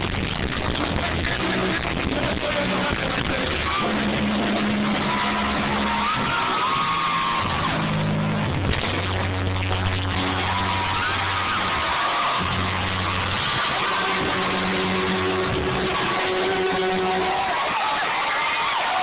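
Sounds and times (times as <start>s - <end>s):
held bass notes: 0.0s - 17.7s
live rock band playing: 0.0s - 18.6s
high sliding melody line: 0.9s - 18.1s.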